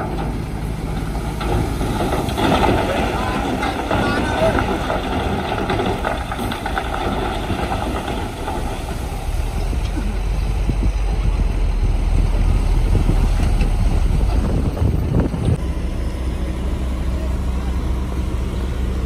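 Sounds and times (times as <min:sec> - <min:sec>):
heavy machinery engine rumbling: 0:00.0 - 0:19.0.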